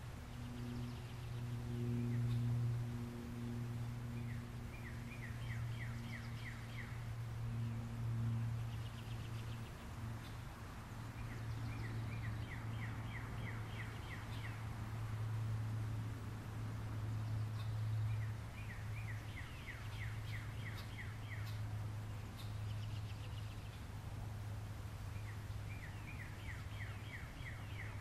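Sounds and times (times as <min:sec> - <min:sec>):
songbird chirping: 0:00.0 - 0:16.0, 0:16.6 - 0:28.0
steady low hum: 0:00.0 - 0:28.0.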